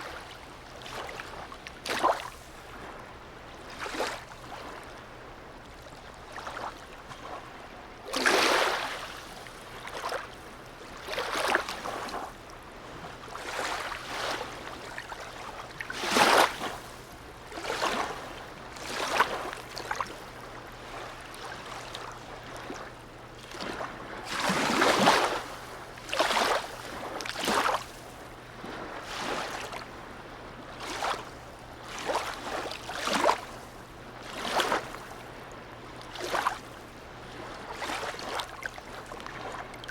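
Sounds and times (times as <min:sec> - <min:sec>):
small waves splashing against harbour: 0:00.0 - 0:39.9.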